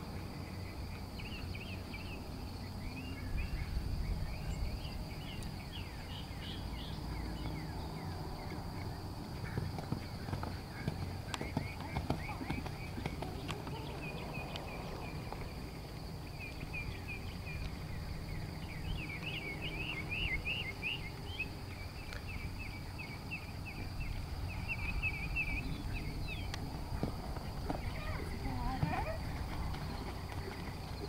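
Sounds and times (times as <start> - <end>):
bird chirping: 0.4 - 31.0.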